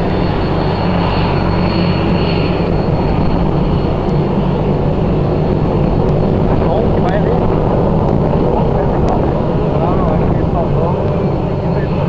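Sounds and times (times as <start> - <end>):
aircraft engine drone: 0.0 - 12.0
faint high whine: 0.0 - 12.0.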